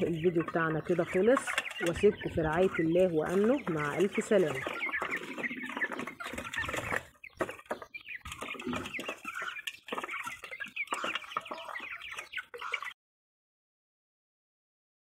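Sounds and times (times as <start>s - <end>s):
chicks chirping and clucking: 0.0s - 13.0s.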